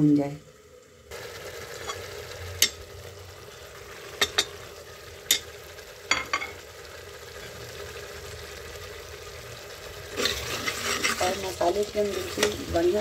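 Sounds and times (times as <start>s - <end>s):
masala sizzling in a pot: 0.0s - 13.0s.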